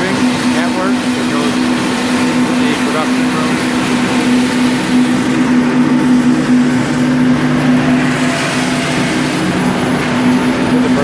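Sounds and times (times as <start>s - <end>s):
rushing air: 0.0s - 11.0s
vacuum motor hum: 0.0s - 11.0s.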